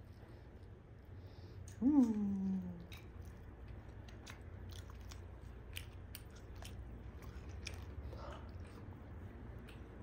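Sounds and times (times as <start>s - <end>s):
low steady hum: 0.0s - 10.0s
chewing with mouth clicks: 0.4s - 10.0s.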